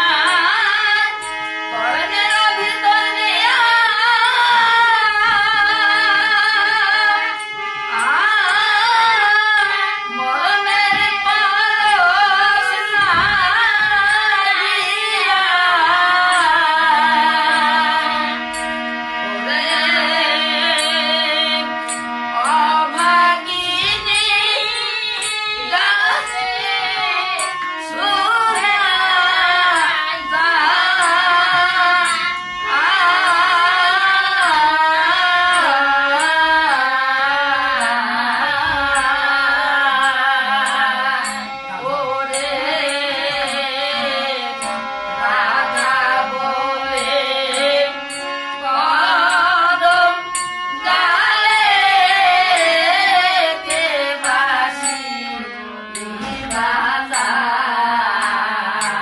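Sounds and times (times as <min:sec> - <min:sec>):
harmonium chords: 0:00.0 - 0:59.0
women singing together: 0:00.0 - 0:59.0.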